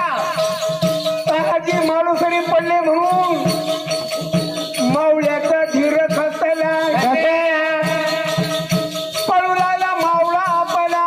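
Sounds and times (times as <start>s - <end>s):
drum strokes: 0.0s - 11.0s.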